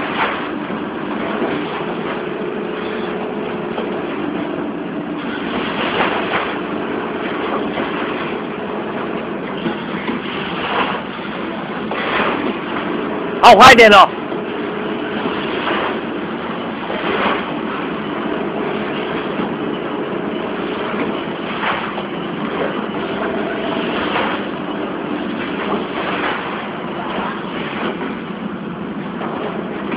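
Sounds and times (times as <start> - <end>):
machine hum and clatter: 0.0 - 29.9.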